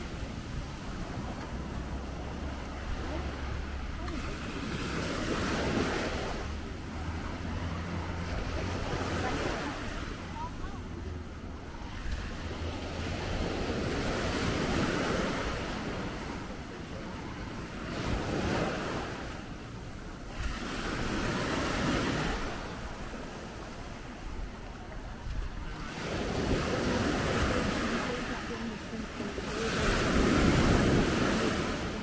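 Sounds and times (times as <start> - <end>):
sea waves washing in: 0.0 - 32.0.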